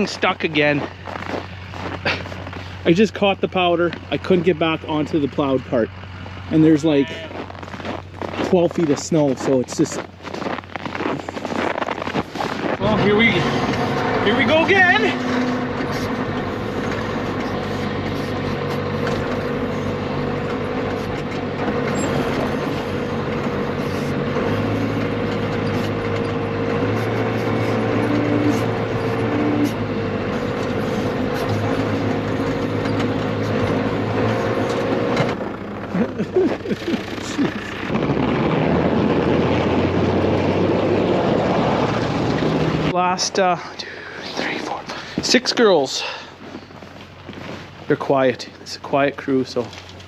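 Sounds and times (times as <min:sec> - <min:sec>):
truck engine under load: 0:00.0 - 0:50.0.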